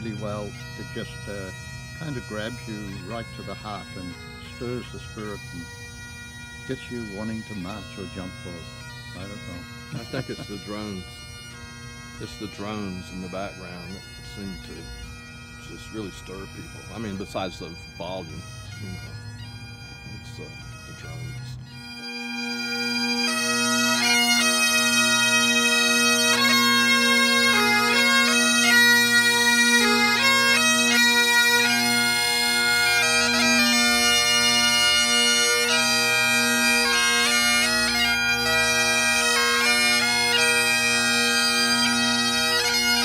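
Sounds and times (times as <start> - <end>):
bagpipes playing in unison: 0.0 - 43.0.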